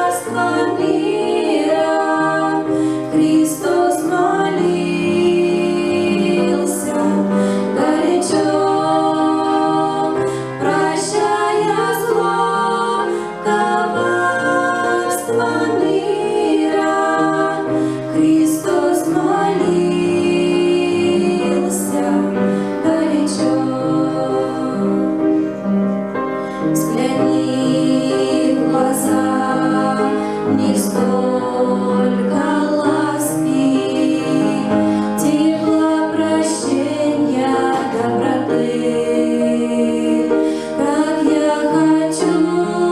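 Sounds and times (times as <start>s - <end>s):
women singing a christian song: 0.0s - 25.2s, 26.8s - 42.9s.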